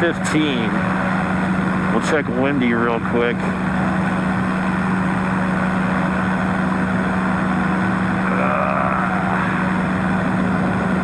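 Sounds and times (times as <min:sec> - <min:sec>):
propeller engine humming: 0:00.0 - 0:11.0.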